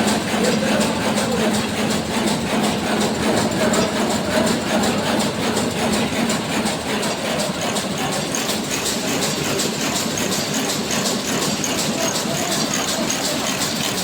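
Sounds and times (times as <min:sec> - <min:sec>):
power loom clattering: 0:00.0 - 0:14.0.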